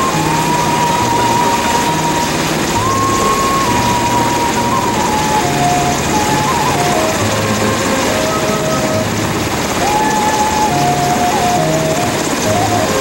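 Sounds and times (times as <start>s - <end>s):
helicopter running: 0.0s - 13.0s
simple melody of held notes: 0.0s - 13.0s.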